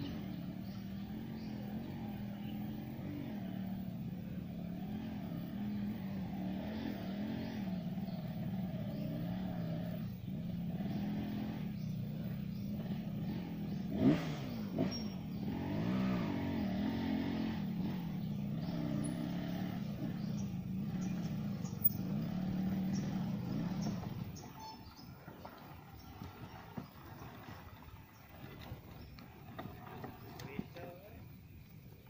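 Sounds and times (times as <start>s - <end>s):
motorcycle engine under load: 0.0s - 32.0s.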